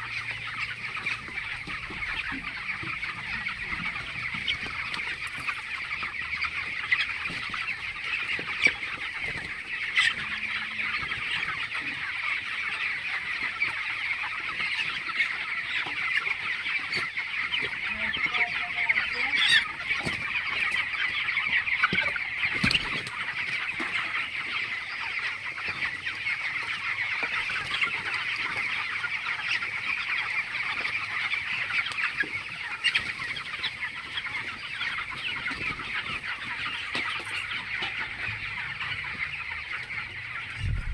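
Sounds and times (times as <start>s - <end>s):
chickens chattering: 0.0s - 40.9s.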